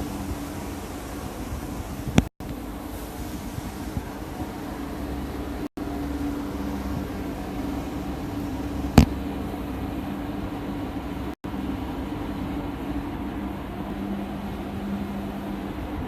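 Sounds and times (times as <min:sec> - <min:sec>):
water flushing through filter: 0:00.0 - 0:16.0
water pump humming: 0:00.0 - 0:16.0.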